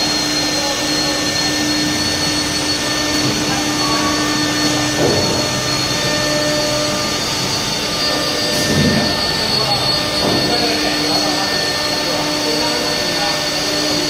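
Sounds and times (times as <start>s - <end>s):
milling machine roar: 0.0s - 14.0s
motor whine: 0.0s - 14.0s.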